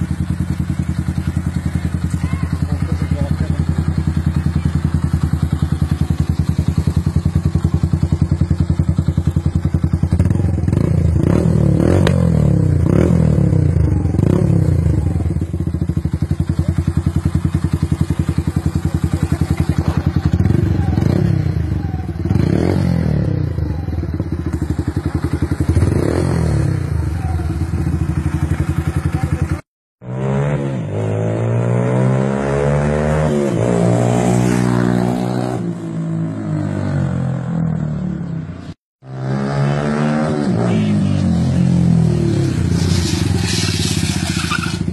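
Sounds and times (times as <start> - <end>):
motorcycle engine idling and revving: 0.0 - 44.9
motorcycle engine revving up: 0.0 - 44.9.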